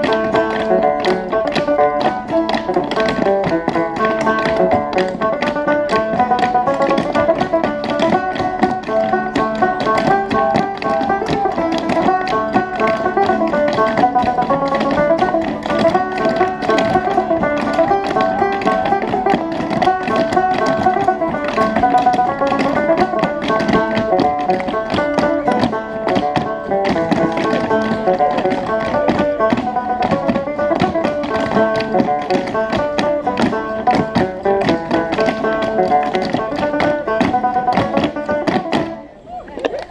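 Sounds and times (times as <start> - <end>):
shoes tapping on dance board: 0.0 - 39.0
instrumental music: 0.0 - 39.2.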